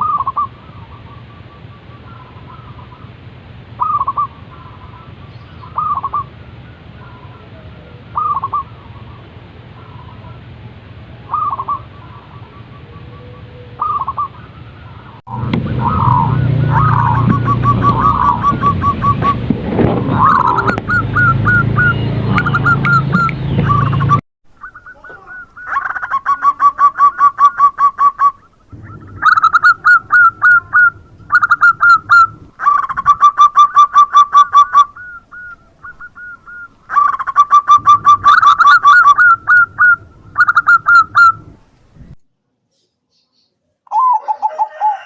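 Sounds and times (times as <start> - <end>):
dove cooing: 0.0 - 3.2, 3.8 - 6.3, 7.0 - 41.7, 43.9 - 45.0.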